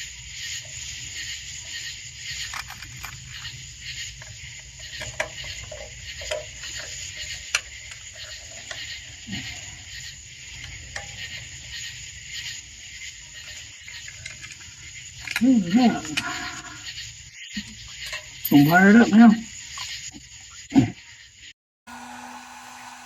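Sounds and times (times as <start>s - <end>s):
night insects chorus: 0.0s - 21.6s.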